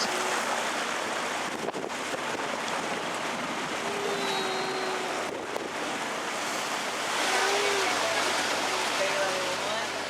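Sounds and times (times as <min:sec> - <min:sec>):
faint boat motor: 0:00.0 - 0:10.0
water rushing past boat: 0:00.0 - 0:10.0.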